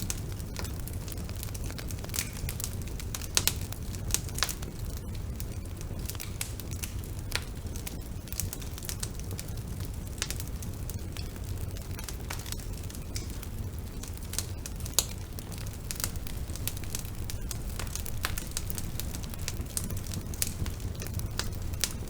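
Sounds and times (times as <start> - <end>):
burning wood crackling and popping: 0.0 - 22.0
low rush of flames: 0.0 - 22.0.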